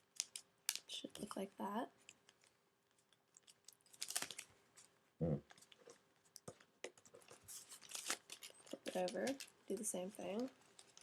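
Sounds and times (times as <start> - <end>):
paper crinkling: 0.1 - 11.0
crisp paper rustle: 0.2 - 11.0.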